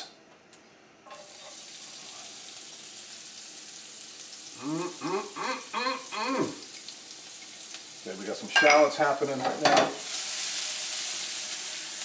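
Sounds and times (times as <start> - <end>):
shallots sizzling in a frying pan: 1.1 - 12.0.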